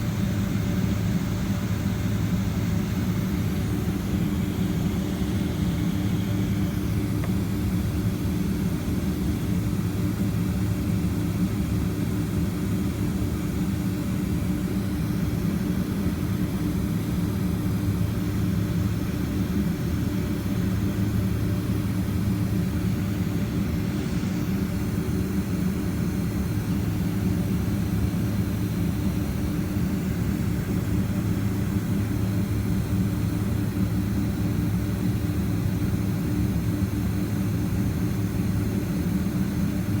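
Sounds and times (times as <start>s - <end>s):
jet engine drone in cabin: 0.0s - 40.0s.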